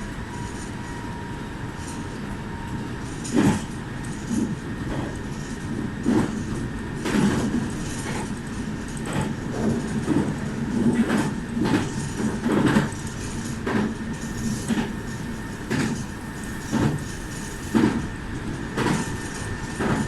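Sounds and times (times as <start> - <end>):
electric train low rumble: 0.0 - 20.0.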